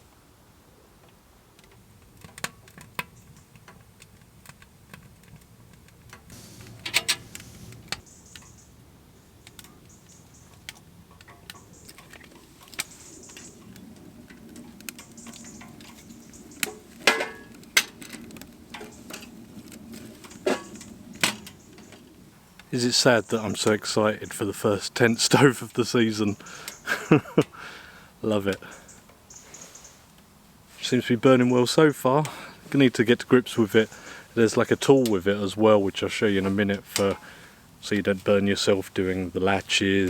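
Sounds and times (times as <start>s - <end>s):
kindling crackling and popping: 1.0s - 40.0s.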